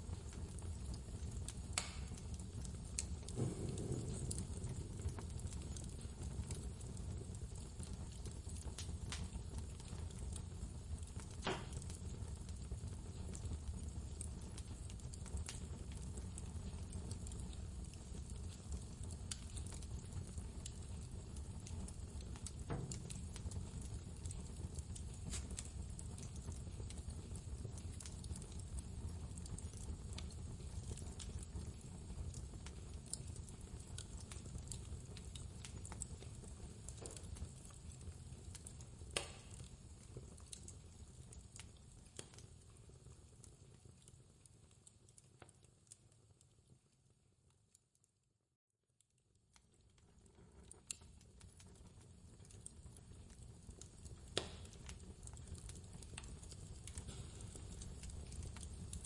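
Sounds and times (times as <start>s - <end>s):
wood fire crackling: 0.0s - 48.0s, 49.0s - 59.0s.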